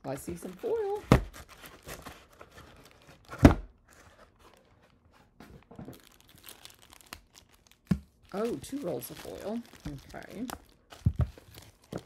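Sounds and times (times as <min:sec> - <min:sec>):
plastic wrapping crinkling: 0:00.4 - 0:12.0.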